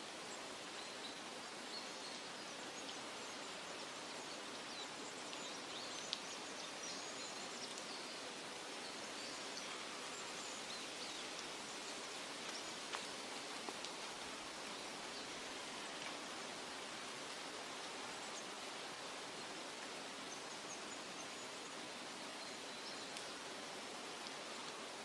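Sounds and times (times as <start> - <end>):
rustling hiss of wind: 0.0 - 25.0.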